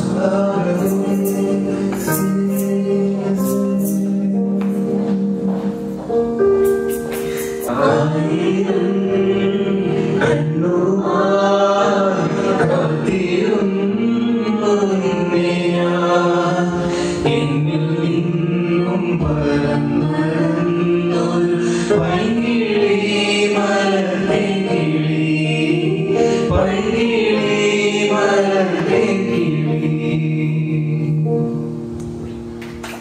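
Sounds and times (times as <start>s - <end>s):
group of voices singing: 0.0s - 5.1s, 6.7s - 31.5s
acoustic accompaniment: 0.0s - 33.0s.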